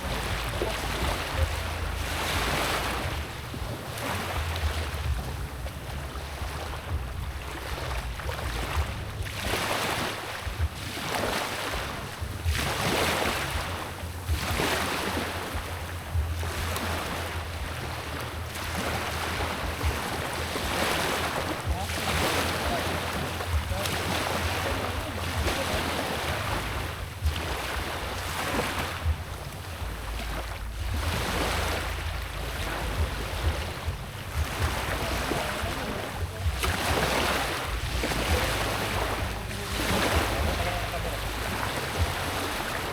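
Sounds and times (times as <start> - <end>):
low rumble: 0.0 - 42.9
sea waves washing in: 0.0 - 42.9.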